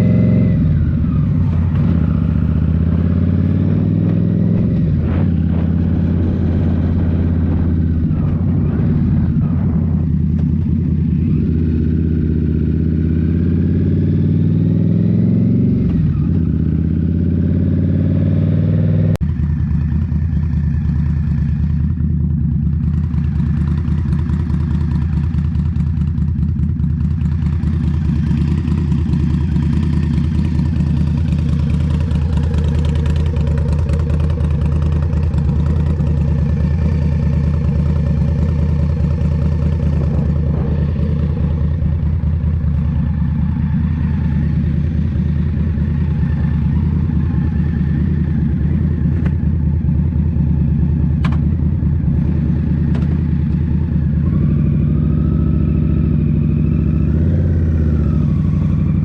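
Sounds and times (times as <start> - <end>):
v-twin motorcycle engine running: 0.0 - 59.0.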